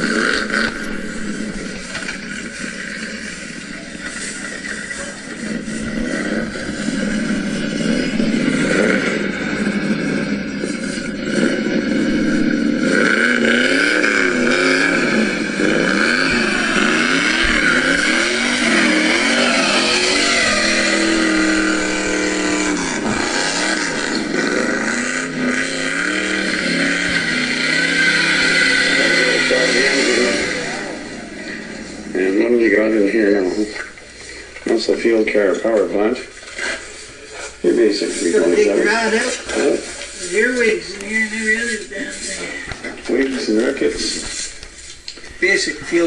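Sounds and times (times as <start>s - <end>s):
car engine revving: 0.0s - 44.6s.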